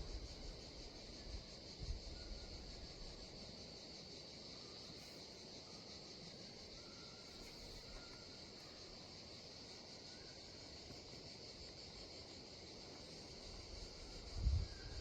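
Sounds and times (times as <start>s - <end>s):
insects chirping chorus: 0.0s - 15.0s.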